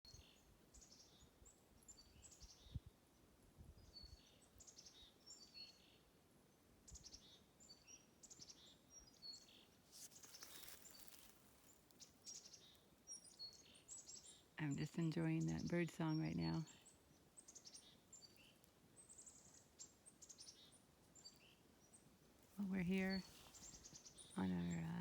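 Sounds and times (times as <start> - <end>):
faint songbirds singing: 0.0 - 25.0.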